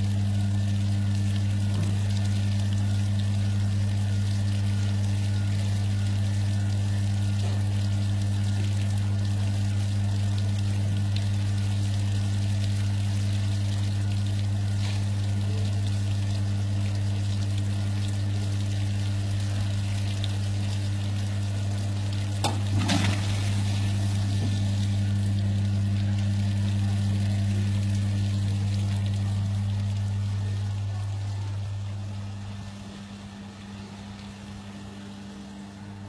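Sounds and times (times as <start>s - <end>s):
water spraying and splashing: 0.0s - 31.0s
pump motor humming: 0.0s - 36.0s.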